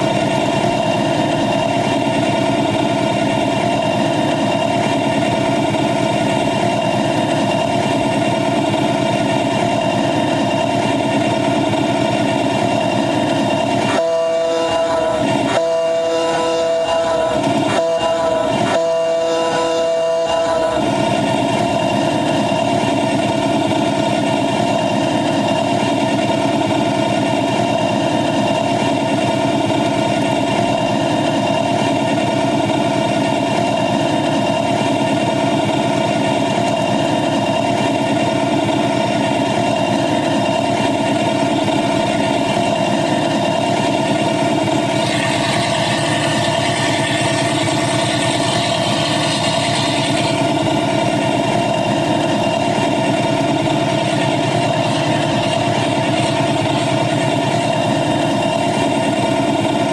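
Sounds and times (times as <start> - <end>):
miniature train running on track: 0.0 - 59.9
motor drone: 0.0 - 59.9.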